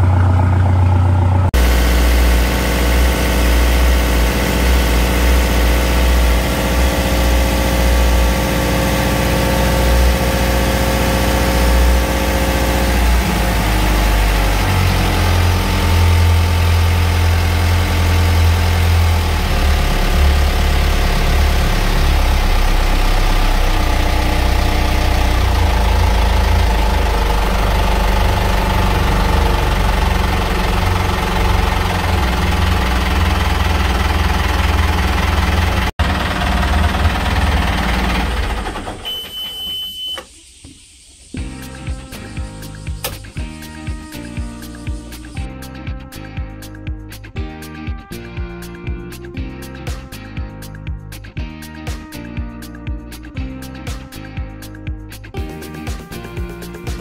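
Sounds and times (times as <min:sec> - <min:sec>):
diesel engine running: 0:00.0 - 0:45.7.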